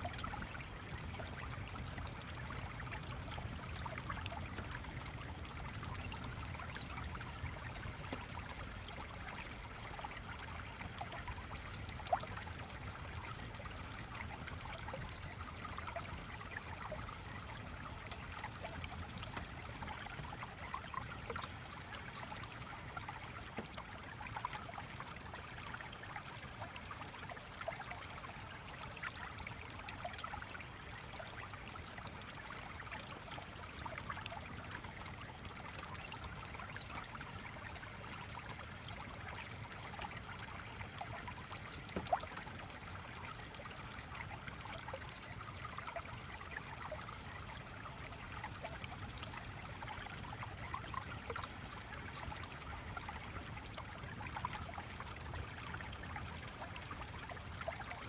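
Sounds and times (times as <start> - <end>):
stream trickling and babbling: 0.0 - 58.0.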